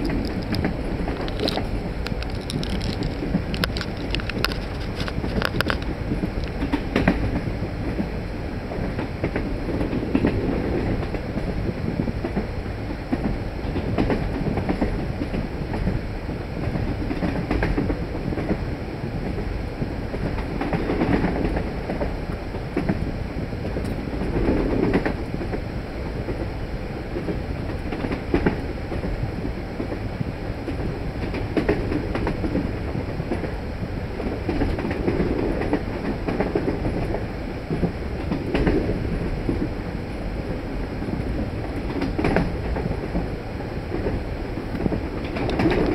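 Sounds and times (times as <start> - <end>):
train wheels clacking: 0.0 - 8.1, 8.7 - 12.5, 13.1 - 18.6, 20.1 - 23.0, 23.6 - 25.6, 27.2 - 29.2, 30.6 - 33.6, 34.2 - 39.7, 41.1 - 43.3, 43.9 - 45.9
train wheels rumbling on track: 0.0 - 45.9.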